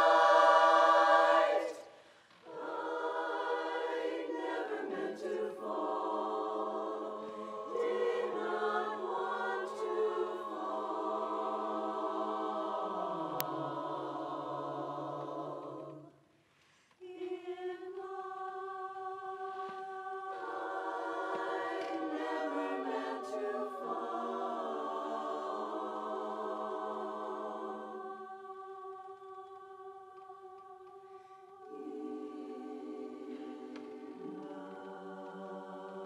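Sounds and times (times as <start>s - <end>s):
women's chorus singing a cappella: 0.0s - 16.3s, 17.0s - 36.0s.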